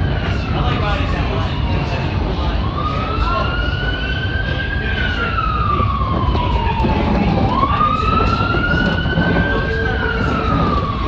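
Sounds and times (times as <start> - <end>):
siren wailing: 0.0 - 11.0
subway train rumble: 0.0 - 11.0.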